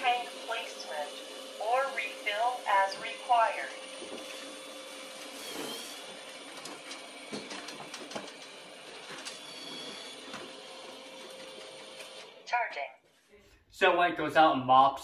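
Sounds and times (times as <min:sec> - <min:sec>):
robot vacuum motor whir: 0:00.0 - 0:12.5.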